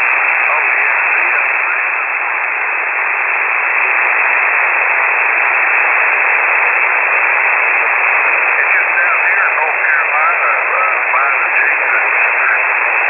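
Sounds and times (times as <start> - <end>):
shortwave radio hiss: 0.0 - 13.0.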